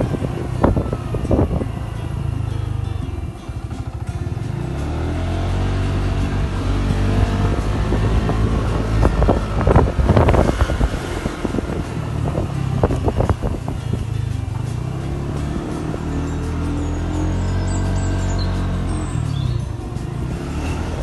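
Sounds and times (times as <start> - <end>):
motorbike engine accelerating: 0.0 - 21.0
wind buffeting microphone: 0.0 - 21.0.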